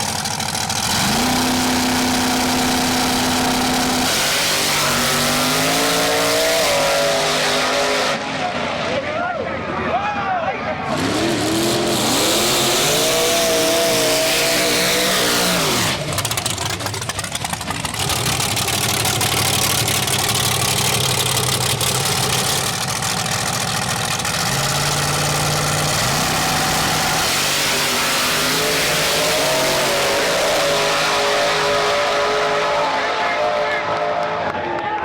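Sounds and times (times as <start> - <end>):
drag racing engine revving: 0.0 - 9.1, 10.8 - 34.5.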